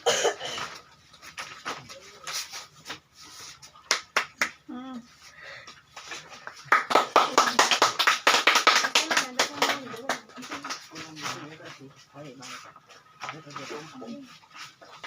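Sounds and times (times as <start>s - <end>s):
indistinct voices in a room: 0.6s - 15.0s.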